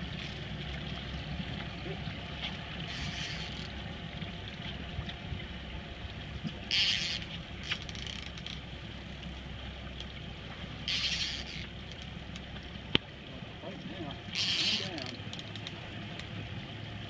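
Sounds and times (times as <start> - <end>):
outboard motors running: 0.0 - 17.0.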